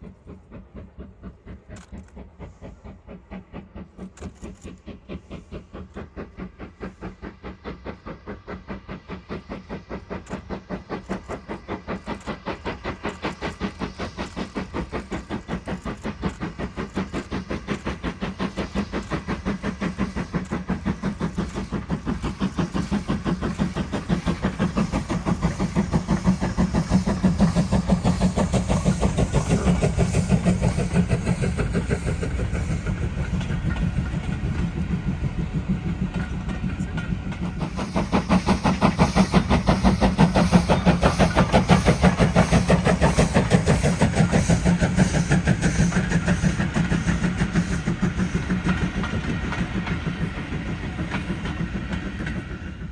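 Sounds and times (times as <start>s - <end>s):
steam locomotive exhaust beats: 0.0s - 52.9s
train coaches rolling past: 0.0s - 52.9s.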